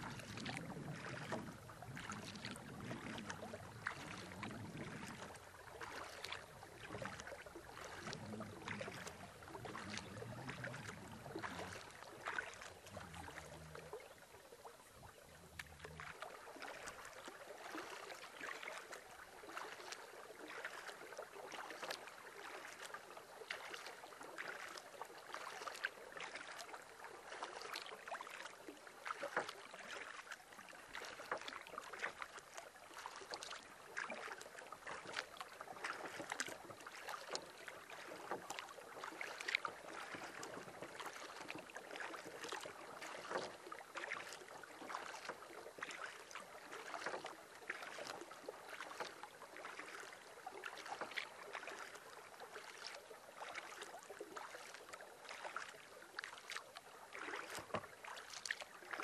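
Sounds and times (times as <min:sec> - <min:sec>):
paddle strokes in water: 0:00.0 - 0:59.0
water splashing against hull: 0:00.0 - 0:59.0.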